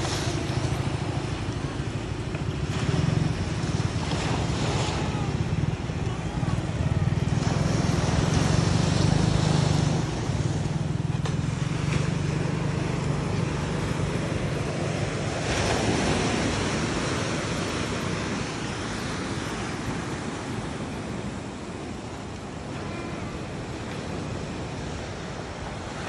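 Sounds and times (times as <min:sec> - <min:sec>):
low engine hum: 0:00.0 - 0:26.0
sea surf against a seawall: 0:00.0 - 0:26.0.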